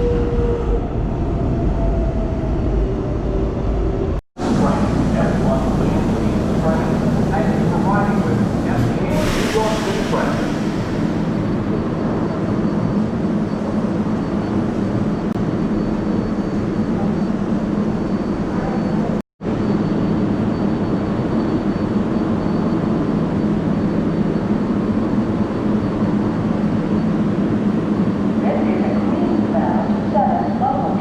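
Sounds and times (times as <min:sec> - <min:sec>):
subway train rumbling in tunnel: 0:00.0 - 0:31.0.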